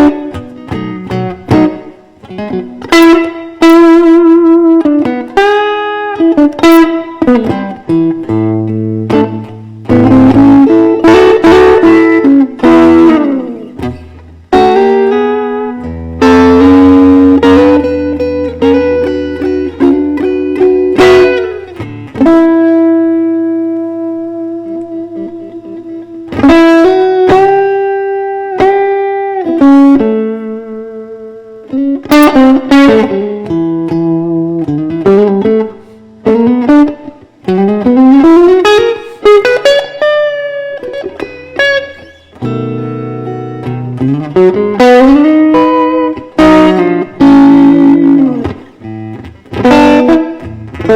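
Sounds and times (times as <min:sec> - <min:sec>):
electric guitar playing blues: 0:00.0 - 0:50.9.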